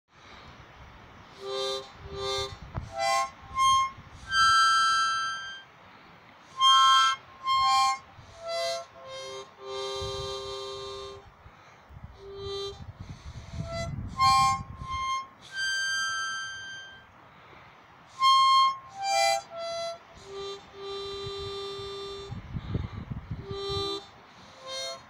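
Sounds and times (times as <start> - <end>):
harmonica playing: 1.3 - 5.7, 6.5 - 11.3, 12.2 - 17.2, 18.1 - 25.0.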